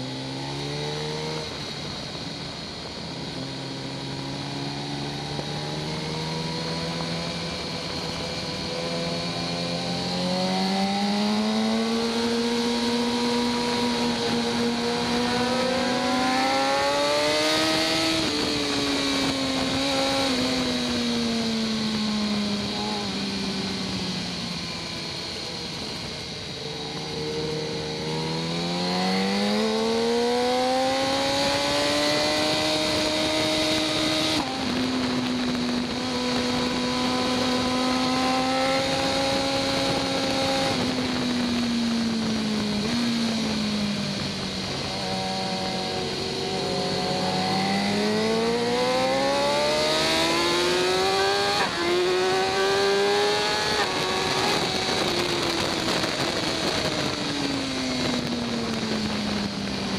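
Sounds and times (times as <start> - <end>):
motorcycle engine at riding speed: 0.0 - 59.9.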